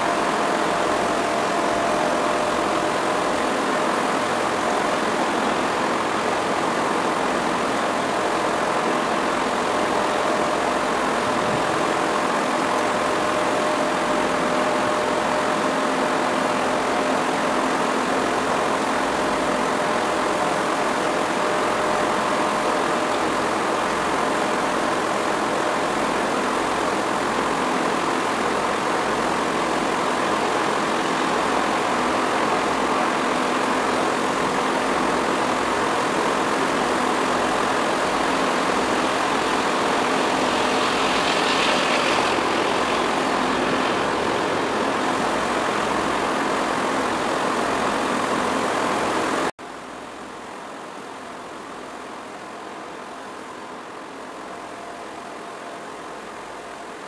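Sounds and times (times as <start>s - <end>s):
ship engines droning: 0.0s - 49.5s.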